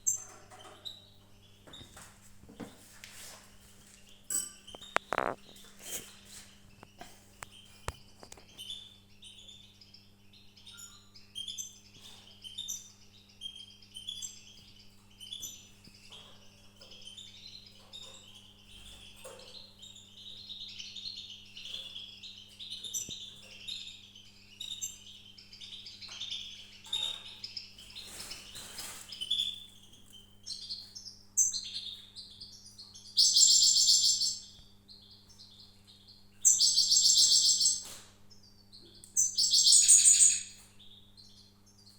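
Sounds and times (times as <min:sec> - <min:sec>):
low electrical hum: 0:00.0 - 0:41.9
songbirds chirping: 0:00.0 - 0:41.9.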